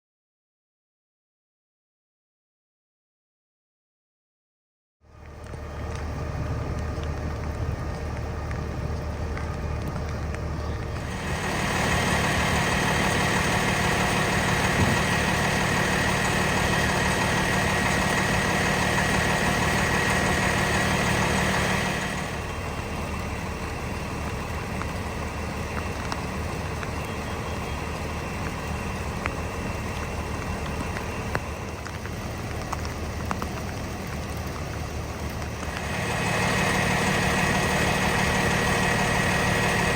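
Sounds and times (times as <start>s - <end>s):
diesel engine running: 5.0s - 39.9s.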